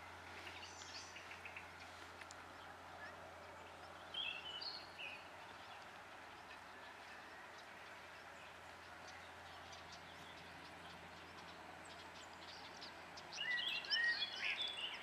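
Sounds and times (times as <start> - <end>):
faint background hiss: 0.0 - 15.0
songbirds chirping and singing: 0.0 - 15.0.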